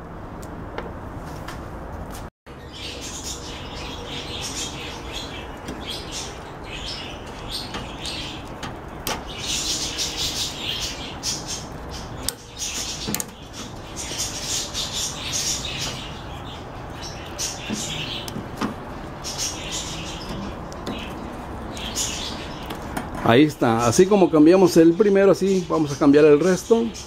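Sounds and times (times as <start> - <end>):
small birds chirping: 2.5 - 27.0.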